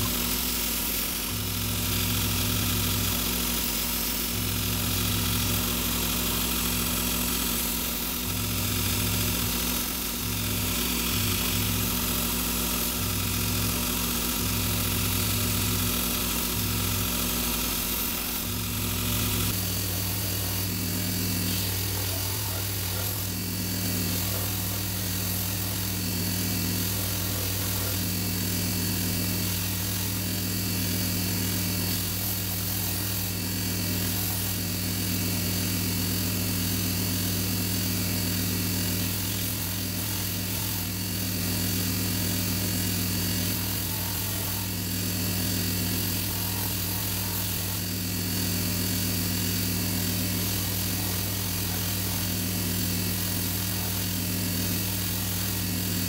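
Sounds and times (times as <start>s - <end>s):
belt grinder motor hum: 0.0s - 56.0s
wooden handle sanding on belt: 0.0s - 56.0s.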